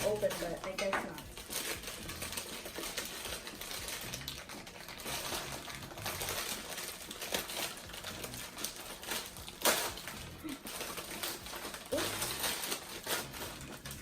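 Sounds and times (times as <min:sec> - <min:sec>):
snack packaging crinkling: 0:00.0 - 0:14.0.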